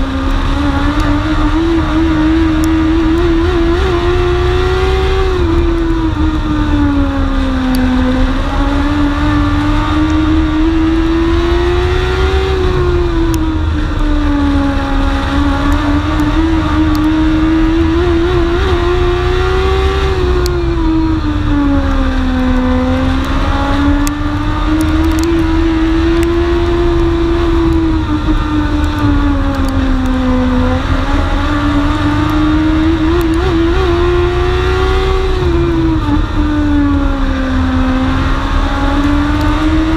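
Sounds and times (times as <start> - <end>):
race car engine at speed: 0.0 - 39.9
road rumble: 0.0 - 39.9
wind: 0.0 - 39.9.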